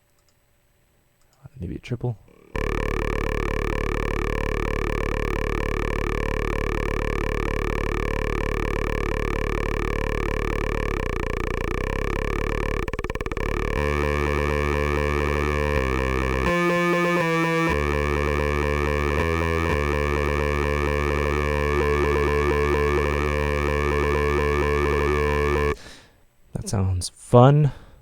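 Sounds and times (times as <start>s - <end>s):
buzzy synthesizer note with wah: 2.6s - 25.8s.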